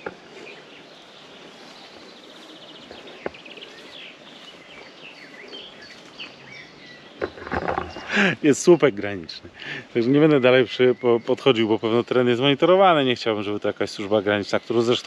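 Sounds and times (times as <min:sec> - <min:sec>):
songbirds chirping and trilling: 0:00.0 - 0:15.0
steady background hiss: 0:00.0 - 0:15.0.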